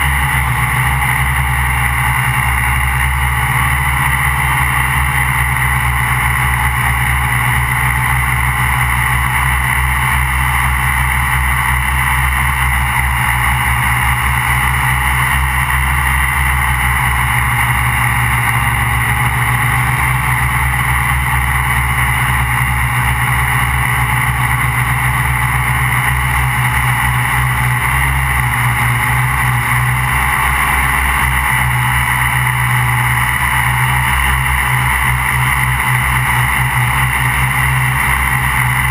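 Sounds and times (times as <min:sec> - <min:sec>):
quadcopter motors buzzing: 0:00.0 - 0:38.9.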